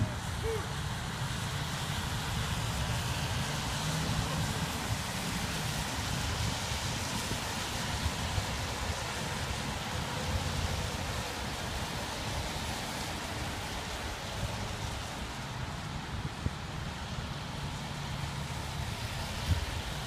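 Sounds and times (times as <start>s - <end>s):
low traffic rumble: 0.0s - 20.0s
tyres hissing on wet pavement: 0.0s - 20.0s.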